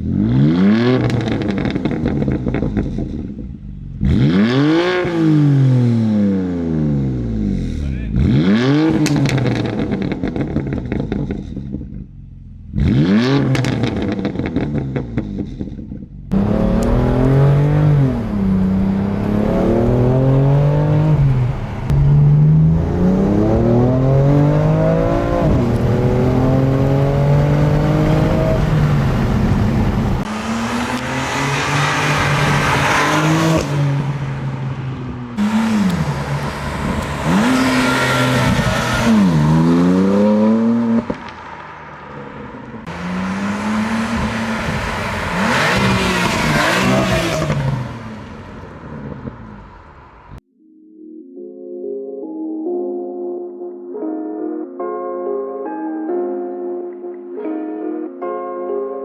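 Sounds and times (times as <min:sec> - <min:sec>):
car engine revving: 0:00.0 - 0:50.4.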